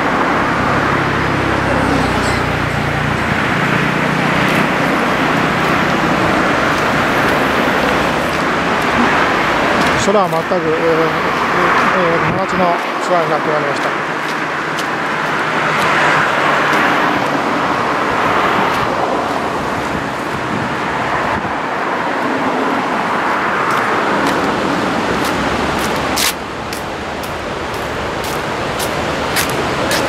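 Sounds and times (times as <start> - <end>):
seaside rushing noise: 0.0 - 30.0.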